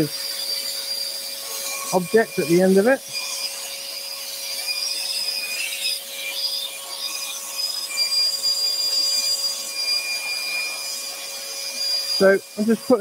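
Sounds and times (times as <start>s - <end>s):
scroll saw cutting wood: 0.0s - 13.0s.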